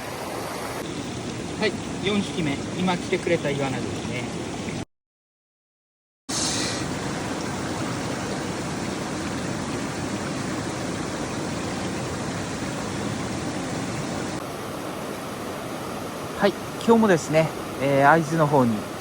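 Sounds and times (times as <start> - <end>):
mountain stream rushing: 0.0 - 4.8, 6.3 - 19.0.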